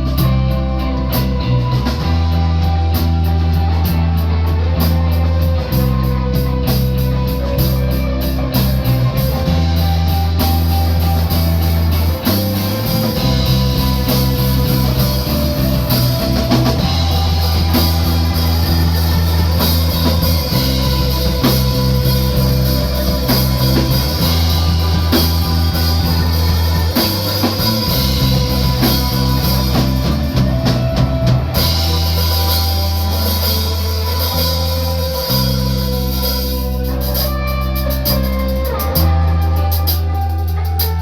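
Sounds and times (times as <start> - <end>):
bass guitar notes: 0.0 - 41.0
drum kit: 0.0 - 41.0
electric guitar: 0.0 - 41.0.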